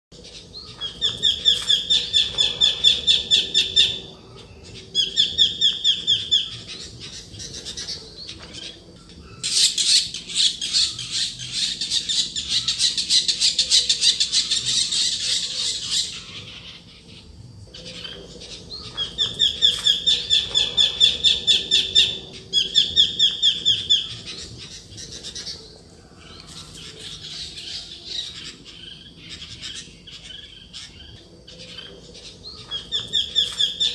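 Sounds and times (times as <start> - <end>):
bird calling strident notes: 0.2 - 33.9.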